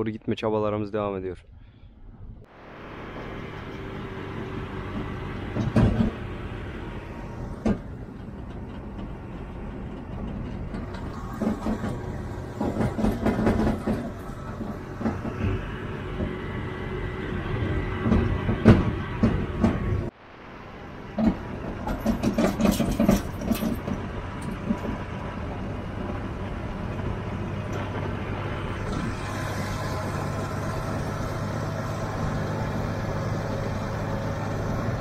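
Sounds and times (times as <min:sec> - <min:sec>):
tractor diesel engine running: 0:02.5 - 0:35.0
trailer clanking and rattling: 0:02.8 - 0:20.1, 0:21.0 - 0:35.0.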